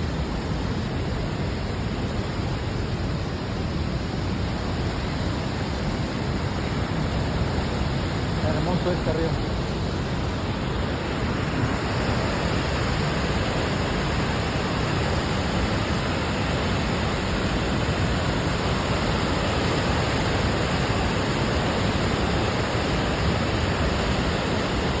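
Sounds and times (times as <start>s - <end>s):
waterfall rushing: 0.1s - 25.0s.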